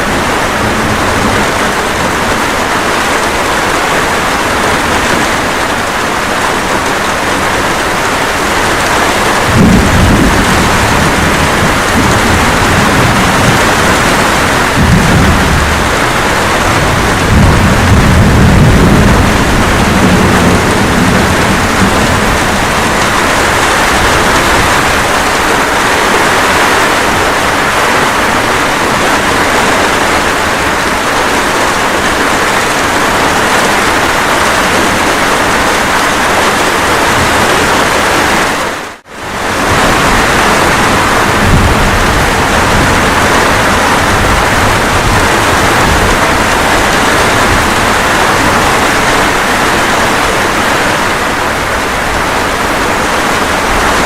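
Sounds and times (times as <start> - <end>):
low thunder rumble: 0.0 - 37.9, 39.2 - 54.0
steady rain: 0.0 - 54.0.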